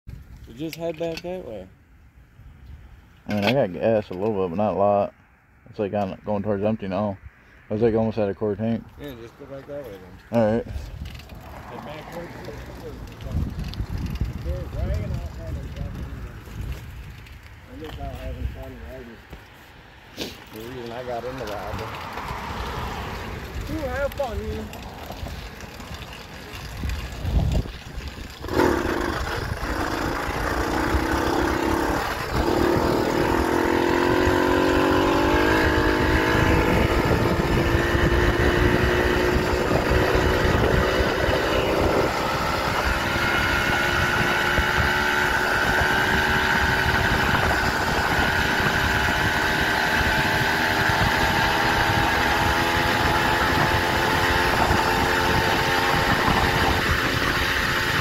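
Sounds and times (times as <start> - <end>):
small motorbike engine accelerating: 9.5 - 19.1, 20.2 - 58.0.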